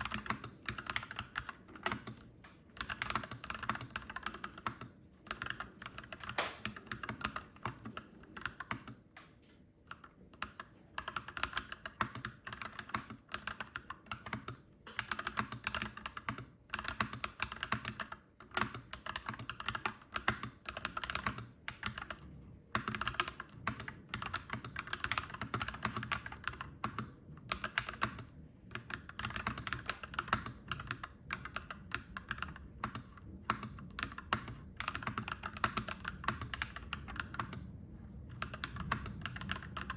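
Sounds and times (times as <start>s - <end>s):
clacky mechanical keyboard typing: 0.0s - 39.9s.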